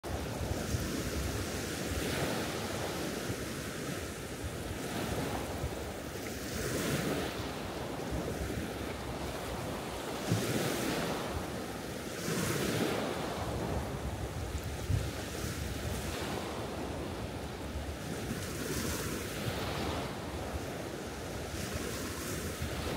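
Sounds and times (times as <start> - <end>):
waves washing up a sandy beach: 0.0 - 22.9.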